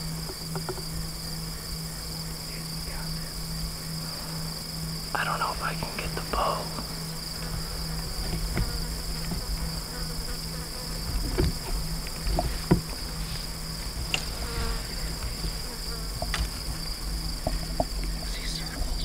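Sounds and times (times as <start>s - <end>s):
insects trilling: 0.0s - 19.0s
low steady hum: 0.0s - 19.0s.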